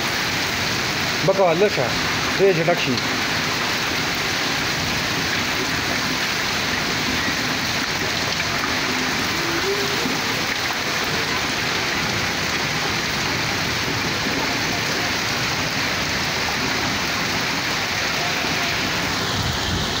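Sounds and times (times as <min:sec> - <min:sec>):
rain on concrete: 0:00.0 - 0:20.0.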